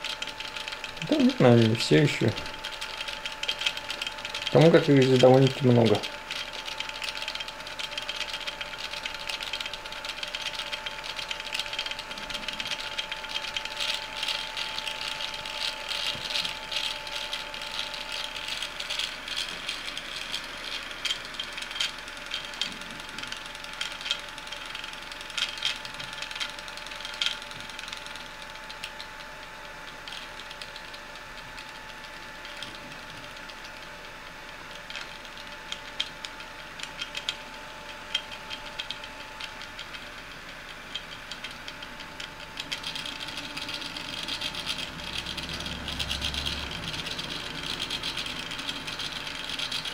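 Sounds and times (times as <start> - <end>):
steady high whine: 0.0 - 49.9
stepper motors clicking and rattling: 0.0 - 49.9.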